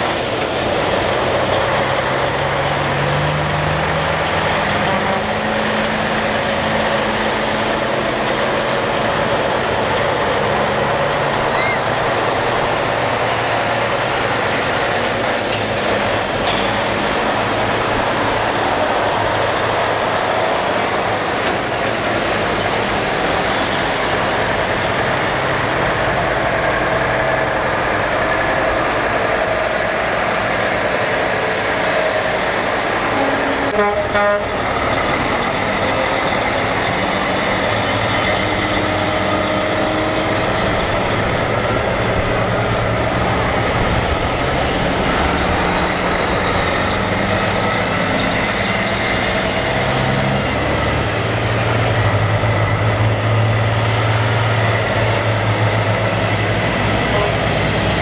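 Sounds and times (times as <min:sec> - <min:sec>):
heavy truck engines driving by: 0:00.0 - 0:58.0.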